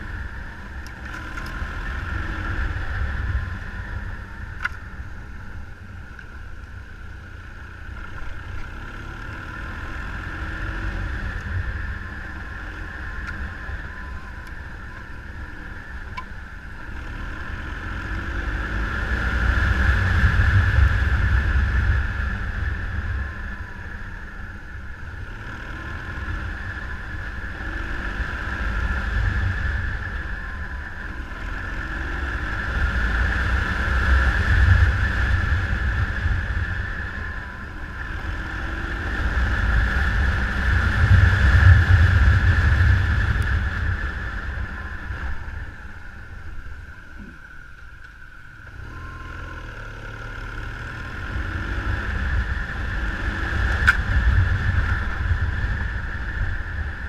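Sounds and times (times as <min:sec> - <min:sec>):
motorcycle engine: 0:00.0 - 0:57.0
wind rumbling on microphone: 0:00.0 - 0:57.0.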